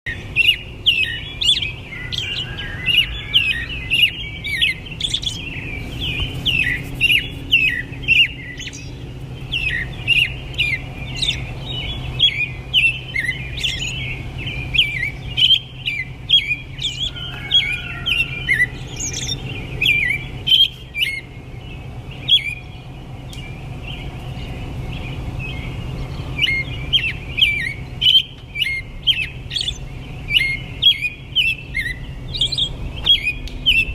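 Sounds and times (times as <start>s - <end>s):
small birds chirping: 0.1s - 33.9s
steady low hum: 0.1s - 33.9s.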